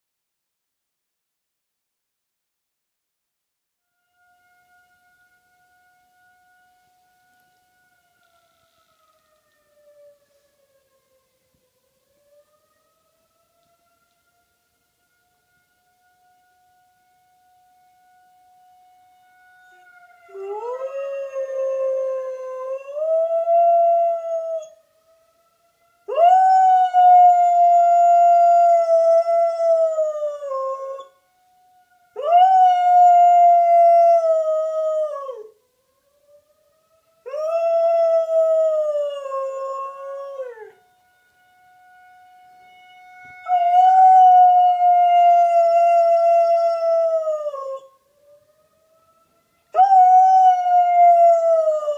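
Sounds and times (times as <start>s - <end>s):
faint siren tone: 3.8s - 51.9s.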